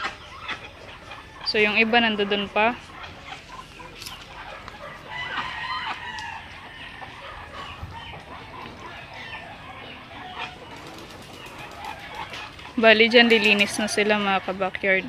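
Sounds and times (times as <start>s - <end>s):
poultry clucking: 0.0s - 15.0s
poultry drawn-out call: 0.0s - 15.0s.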